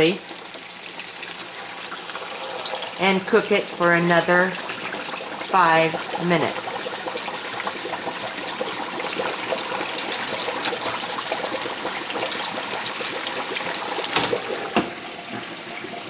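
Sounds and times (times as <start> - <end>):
hot oil bubbling and sizzling: 0.0 - 16.0.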